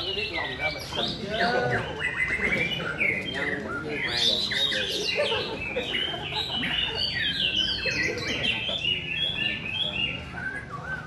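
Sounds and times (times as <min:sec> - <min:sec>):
birds singing whistled notes: 0:00.0 - 0:11.0.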